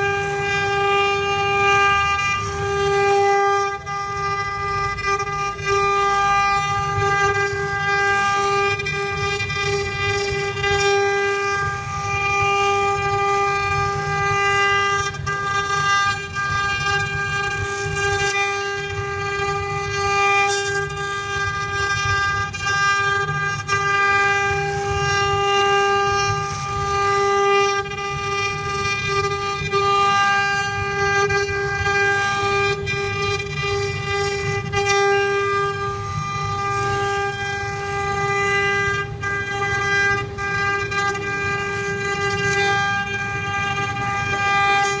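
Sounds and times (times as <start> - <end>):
router spindle whine: 0.0 - 45.0.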